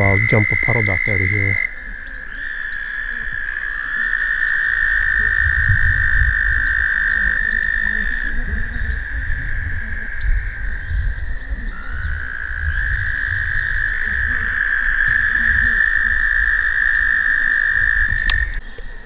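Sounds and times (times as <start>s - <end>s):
toads trilling: 0.0s - 19.0s.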